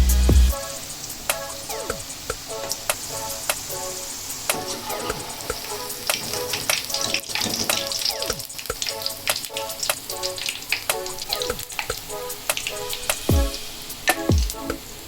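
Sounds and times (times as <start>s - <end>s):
vegetables sizzling in a pan: 0.6s - 15.0s.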